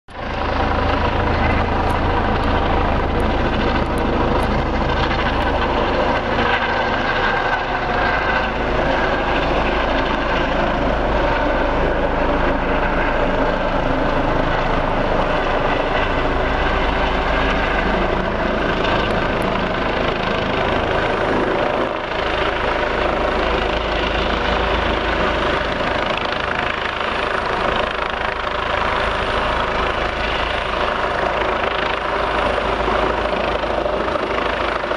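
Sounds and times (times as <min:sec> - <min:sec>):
helicopter rotor and turbine: 0:00.1 - 0:34.9.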